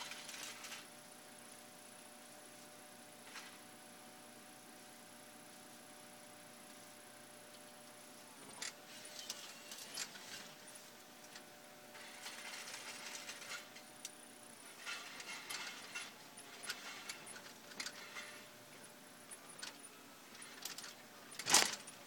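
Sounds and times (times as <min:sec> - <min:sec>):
faint machine hum: 0:00.0 - 0:22.0.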